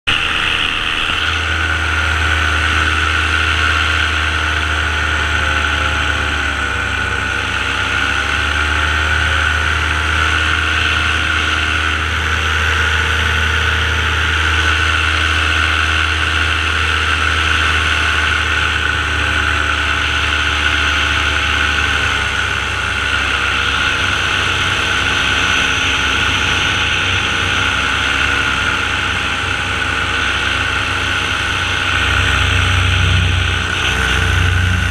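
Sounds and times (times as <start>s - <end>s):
light aircraft engine and propeller: 0.1s - 34.9s.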